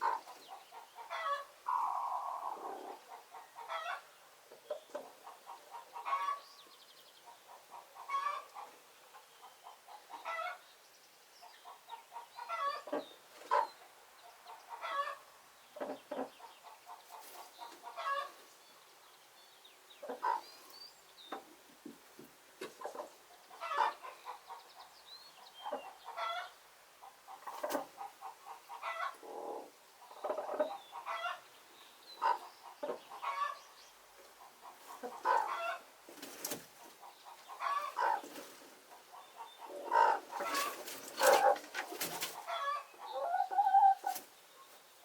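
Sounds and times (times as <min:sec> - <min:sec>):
hens clucking softly: 0:00.0 - 0:06.5, 0:07.2 - 0:10.6, 0:11.4 - 0:18.6, 0:20.0 - 0:20.7, 0:21.3 - 0:31.5, 0:32.2 - 0:44.7.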